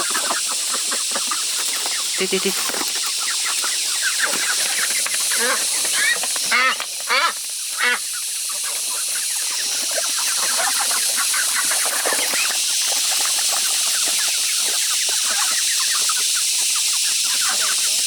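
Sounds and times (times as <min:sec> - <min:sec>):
poultry chirping and cheeping: 0:00.0 - 0:18.0
steady hiss: 0:00.0 - 0:18.0.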